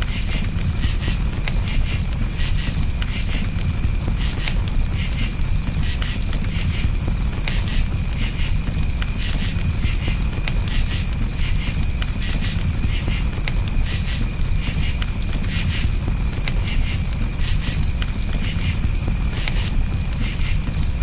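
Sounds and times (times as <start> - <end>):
campfire crackling and popping: 0.0 - 21.0
crickets chirping: 0.0 - 21.0
steady low rumble: 0.0 - 21.0.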